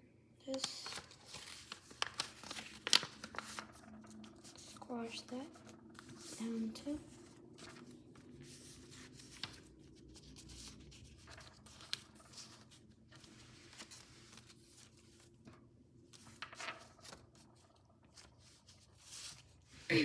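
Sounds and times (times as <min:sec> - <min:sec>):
paper rustling and crinkling: 0:00.4 - 0:19.8.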